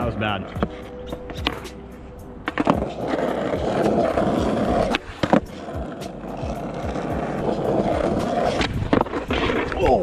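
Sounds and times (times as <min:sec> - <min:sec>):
skateboard wheels rolling on asphalt: 0:00.0 - 0:10.0.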